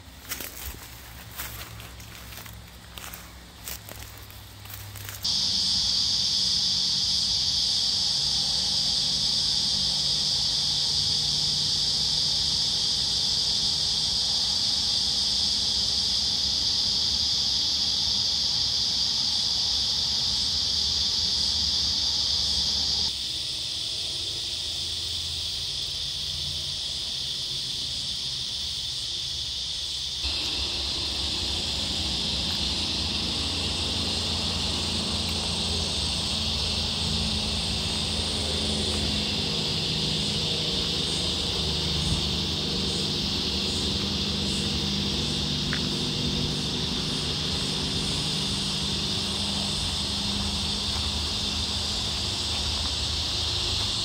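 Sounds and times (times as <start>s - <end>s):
high-pitched insect chorus drone: 0.0s - 54.0s.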